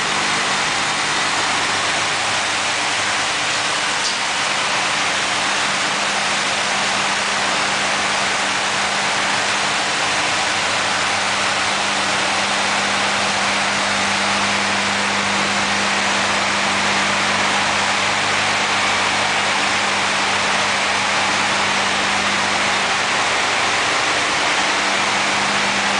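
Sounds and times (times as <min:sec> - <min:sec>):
sawing machine running: 0:00.0 - 0:25.9.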